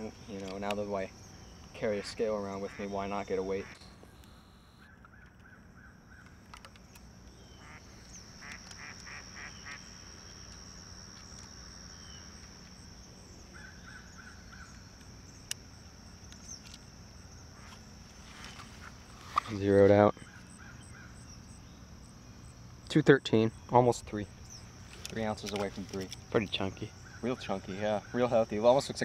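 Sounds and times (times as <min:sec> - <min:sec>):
distant bird calling: 0:00.0 - 0:29.0
high insect drone: 0:00.0 - 0:29.0.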